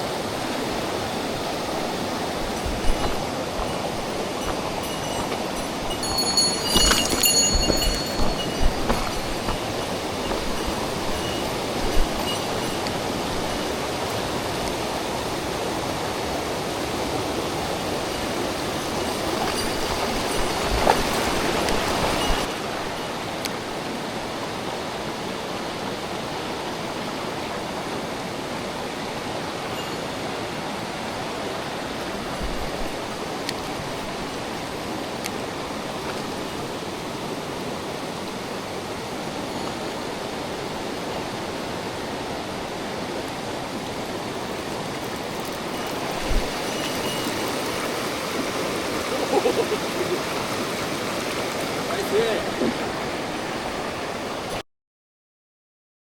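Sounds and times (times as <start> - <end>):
stream rushing over rocks: 0.0 - 54.6.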